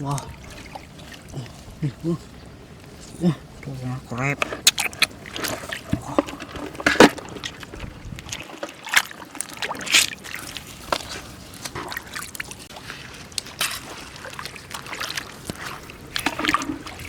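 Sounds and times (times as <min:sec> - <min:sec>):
shallow water sloshing and splashing: 0:00.0 - 0:17.0.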